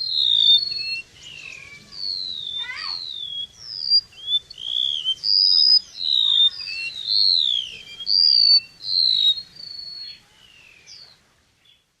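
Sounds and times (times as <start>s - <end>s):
bird song high whistled notes: 0.0s - 11.8s.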